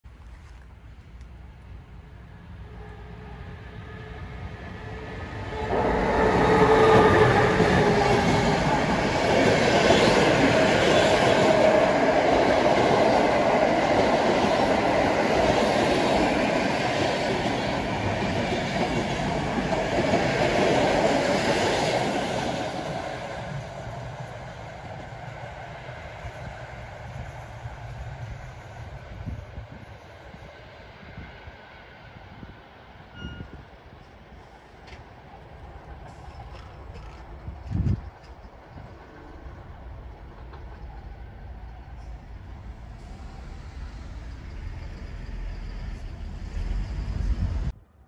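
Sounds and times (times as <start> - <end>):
train passing at speed: 1.2 - 48.0.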